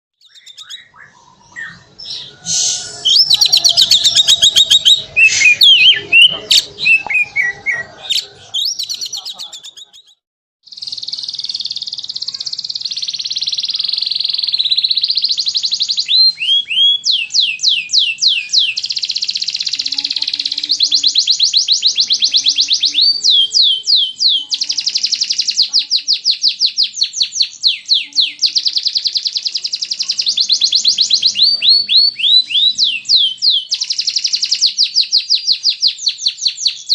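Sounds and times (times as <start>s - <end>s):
canary singing: 0.2s - 36.9s.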